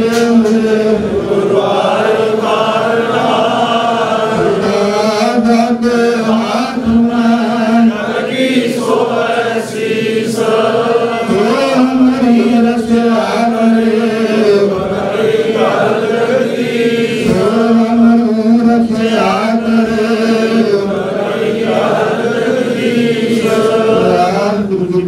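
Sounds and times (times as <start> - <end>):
congregation chanting in unison: 0.0 - 25.0.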